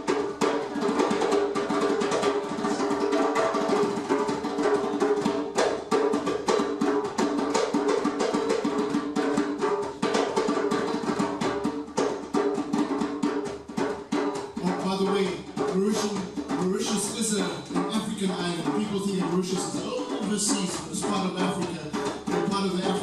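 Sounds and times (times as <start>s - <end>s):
drums: 0.0s - 23.0s.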